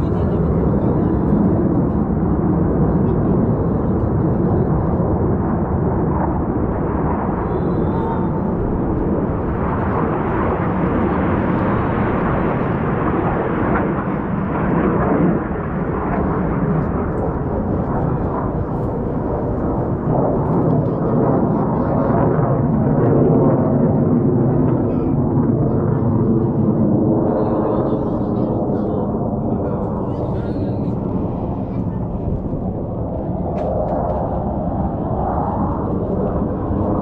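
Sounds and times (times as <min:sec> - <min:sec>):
jet engine rushing noise: 0:00.0 - 0:37.0.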